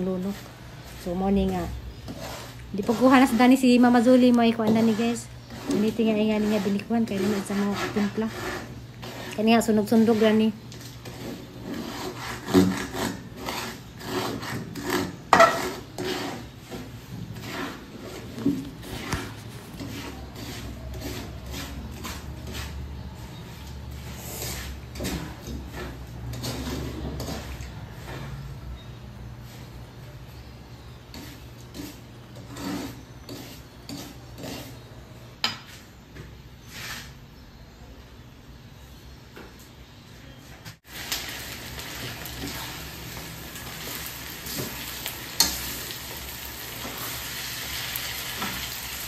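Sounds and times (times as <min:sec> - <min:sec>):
metal spatula scraping wok: 0:00.0 - 0:35.8, 0:40.9 - 0:49.0.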